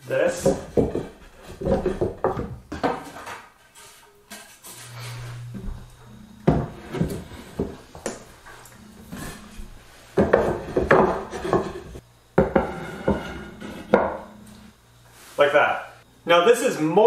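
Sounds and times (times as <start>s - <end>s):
wood strips knocking and scraping: 0.2s - 4.9s, 5.6s - 14.6s.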